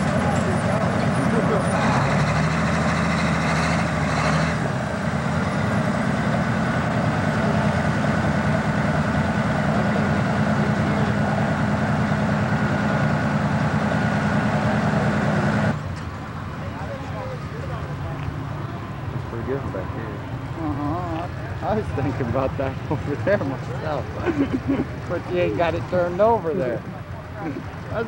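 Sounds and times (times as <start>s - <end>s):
diesel tractor engine idling: 0.0s - 28.0s.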